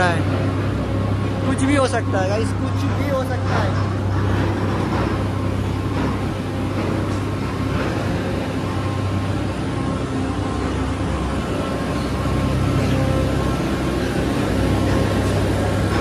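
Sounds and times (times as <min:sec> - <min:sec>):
heavy machinery droning: 0:00.0 - 0:16.0.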